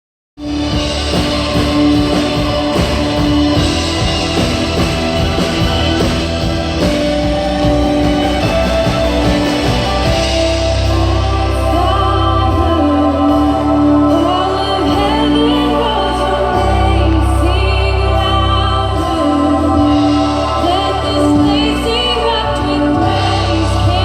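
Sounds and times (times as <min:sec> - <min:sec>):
heavy bass: 0:00.4 - 0:24.0
rock band playing: 0:00.4 - 0:24.0
person singing: 0:01.0 - 0:24.0.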